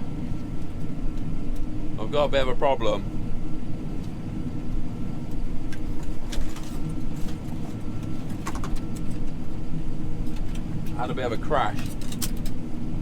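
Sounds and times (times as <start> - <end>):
vehicle engine rumble from cab: 0.0 - 13.0.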